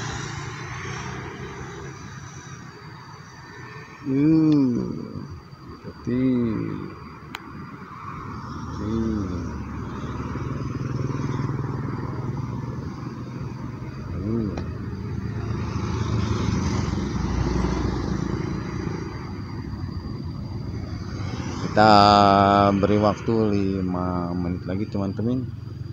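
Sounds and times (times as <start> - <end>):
cars and motorcycles passing: 0.0 - 25.9.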